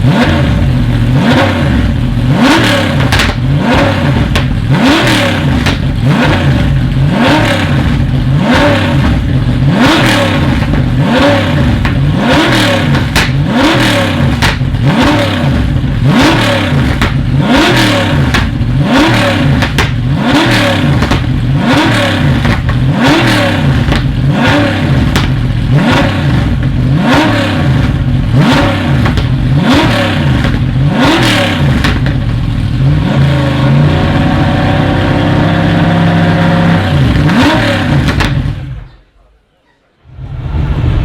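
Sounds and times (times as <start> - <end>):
car engine revving: 0.0 - 38.9, 40.0 - 41.0.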